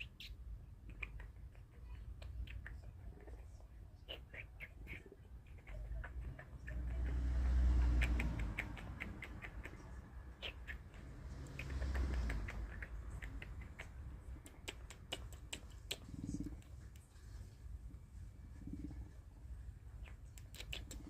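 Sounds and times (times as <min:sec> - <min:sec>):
mouth clicking noises: 0:00.0 - 0:17.6, 0:19.9 - 0:21.0.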